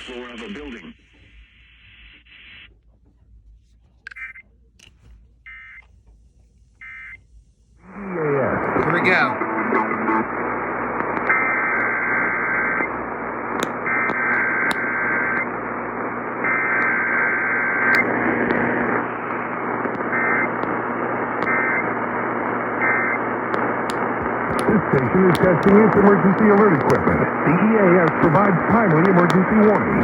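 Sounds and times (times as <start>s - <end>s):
radio static hiss: 0.0s - 2.8s, 7.8s - 30.0s.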